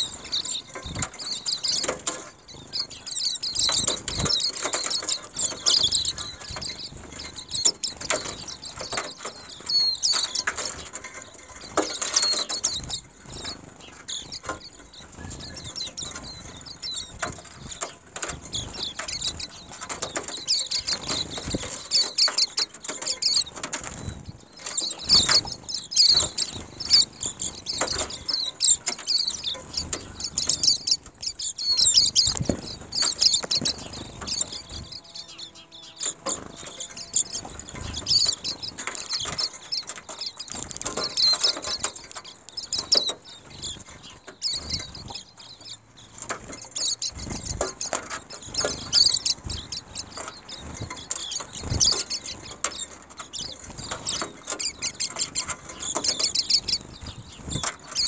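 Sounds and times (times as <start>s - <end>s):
small birds twittering: 0.0s - 58.0s
wings fluttering: 0.0s - 58.0s.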